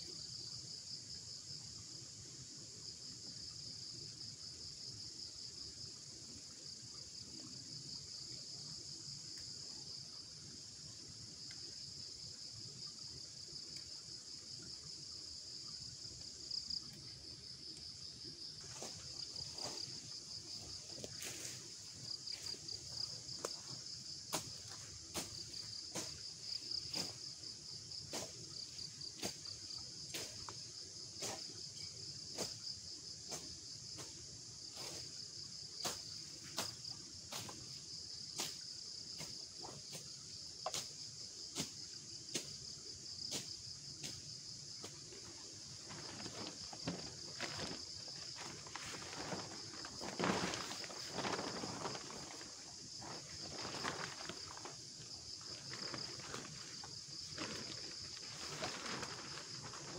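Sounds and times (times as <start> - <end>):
cricket chorus: 0.0 - 59.9.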